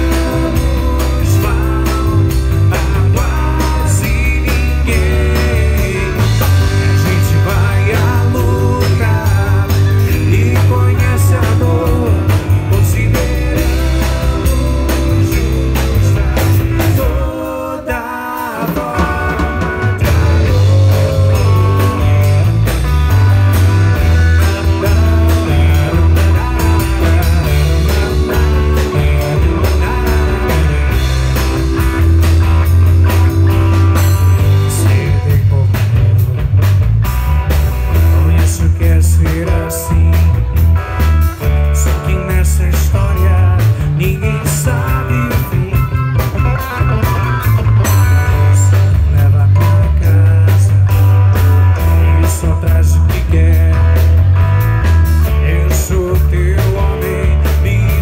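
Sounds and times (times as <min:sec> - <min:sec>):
loud low bass line: 0:00.0 - 0:18.0, 0:18.8 - 0:58.0
drum kit: 0:00.0 - 0:58.0
electric guitar: 0:00.0 - 0:58.0
keyboard: 0:00.0 - 0:58.0.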